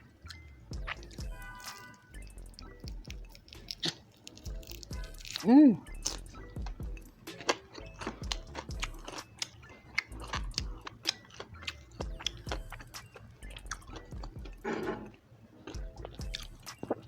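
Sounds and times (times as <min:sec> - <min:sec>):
chewing crispy food: 0:00.0 - 0:17.0
wet mouth clicks: 0:00.3 - 0:17.0.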